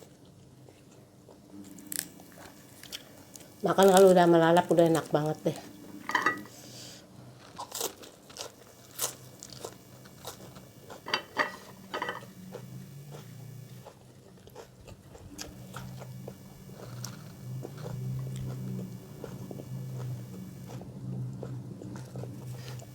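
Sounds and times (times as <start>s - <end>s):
chewing crunchy vegetables: 0.0s - 5.8s, 6.5s - 22.9s.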